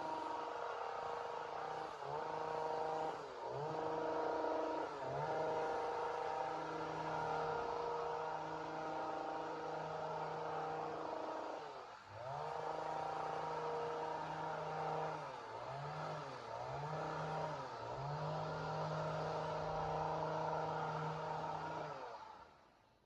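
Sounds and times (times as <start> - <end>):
two-stroke chainsaw at high revs: 0.0 - 22.5.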